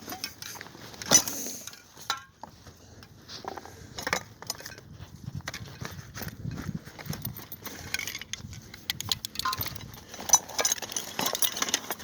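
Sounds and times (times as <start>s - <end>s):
metal tools clinking: 0.0s - 2.5s, 4.0s - 12.0s.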